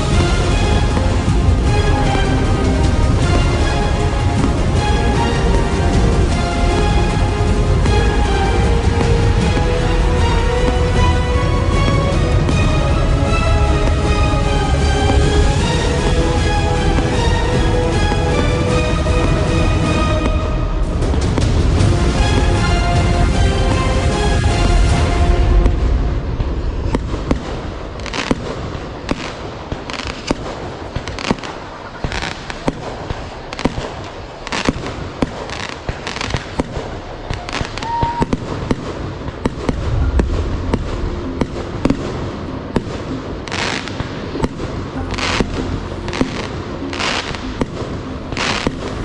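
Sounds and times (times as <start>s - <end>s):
deep fireworks booms: 0.0s - 49.0s
fireworks bangs and crackles: 0.0s - 49.0s.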